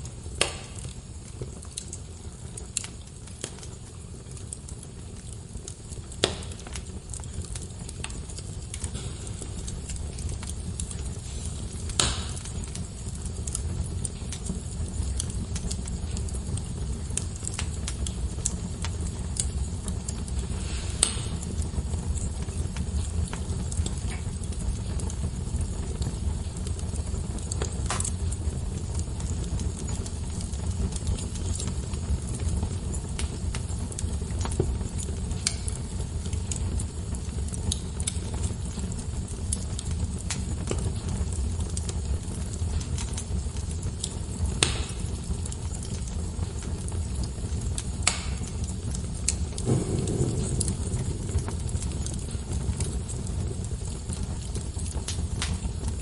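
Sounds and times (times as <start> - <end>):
fire popping: 0.0 - 56.0
fire rumbling and crackling: 0.0 - 56.0.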